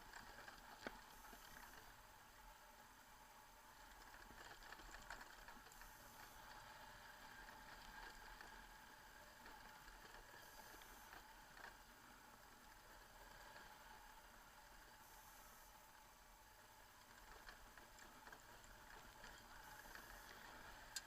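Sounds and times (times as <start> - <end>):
faint ticks: 0.0 - 2.1, 3.7 - 21.0
faint steady hiss: 0.0 - 21.0.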